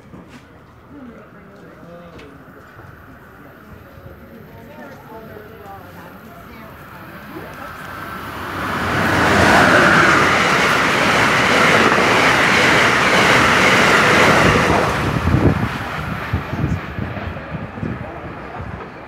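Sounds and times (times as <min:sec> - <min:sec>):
train wheel and rail noise: 0:00.0 - 0:19.0.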